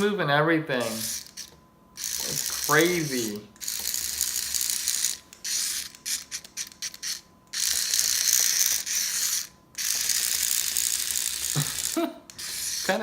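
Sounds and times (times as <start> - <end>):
small geared motor whirring: 0.8 - 13.0.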